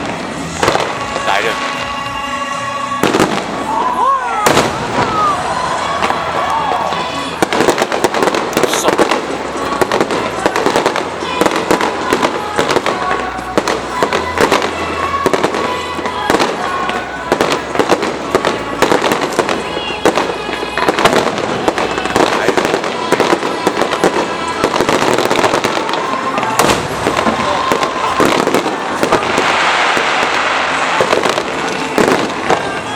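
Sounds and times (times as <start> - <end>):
fireworks bangs and crackling: 0.0 - 32.9.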